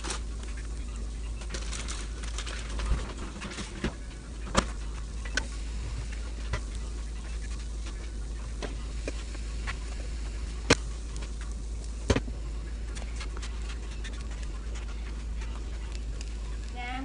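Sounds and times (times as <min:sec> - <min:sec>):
faint crackle: 0:00.0 - 0:17.0
steady low hum: 0:00.0 - 0:17.0.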